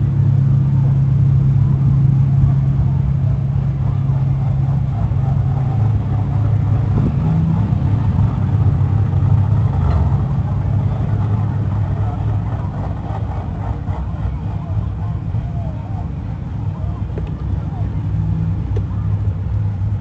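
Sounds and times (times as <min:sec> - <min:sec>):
engine droning steadily: 0:00.0 - 0:20.0.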